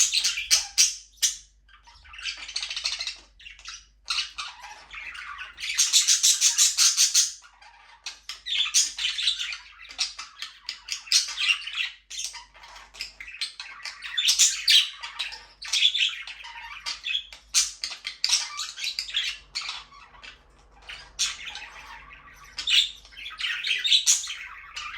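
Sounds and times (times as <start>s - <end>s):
budgerigars chattering and squawking: 0.0s - 24.9s.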